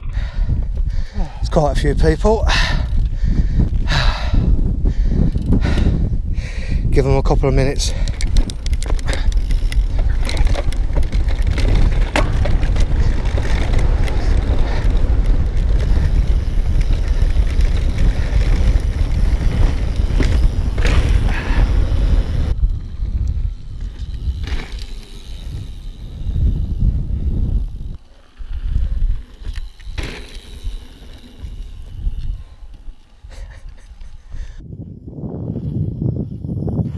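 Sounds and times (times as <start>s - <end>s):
bike chain and frame rattling: 0.0s - 34.6s
tyres and wind rumble: 0.0s - 36.9s.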